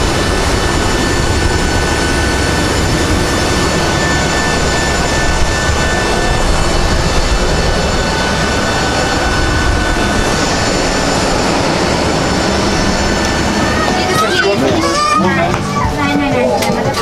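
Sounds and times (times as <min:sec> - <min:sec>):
deep rumble: 0:00.0 - 0:16.9
jet turbine whine: 0:00.0 - 0:17.0.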